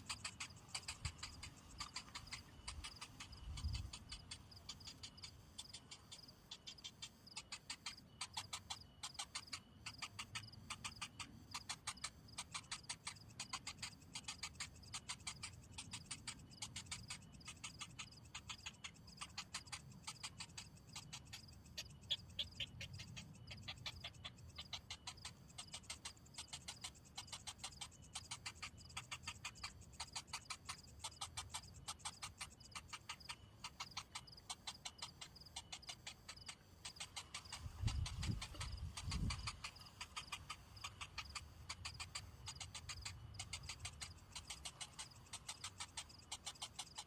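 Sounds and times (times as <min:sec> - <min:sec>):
bird chicks ticking calls: 0:00.0 - 0:47.0.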